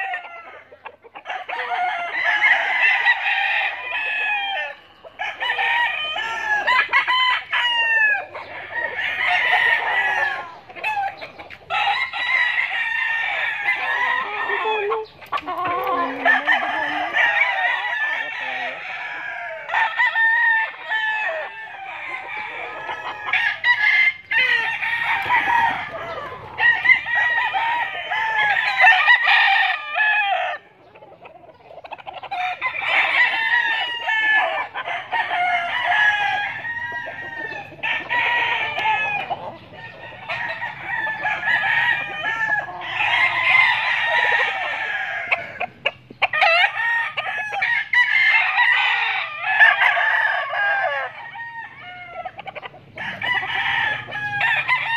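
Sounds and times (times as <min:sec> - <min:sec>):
roosters crowing and clucking: 0:00.0 - 0:54.9.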